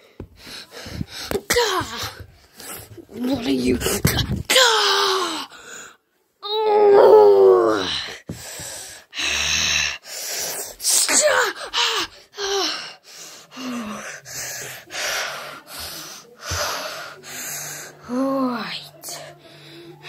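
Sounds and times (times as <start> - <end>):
heavy gasping breaths with moans: 0.0 - 3.1, 3.8 - 6.0, 7.5 - 10.8, 11.4 - 18.3, 18.9 - 20.0.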